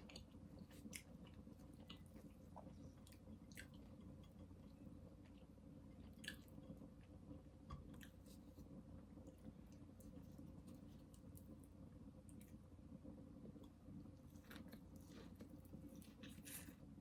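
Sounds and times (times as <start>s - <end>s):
faint chewing of food: 0.0s - 12.8s, 13.4s - 17.0s
low steady hum: 0.0s - 17.0s.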